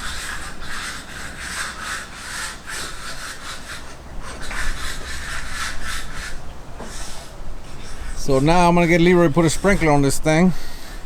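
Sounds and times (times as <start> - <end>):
rough scraping strokes: 0.0 - 11.0.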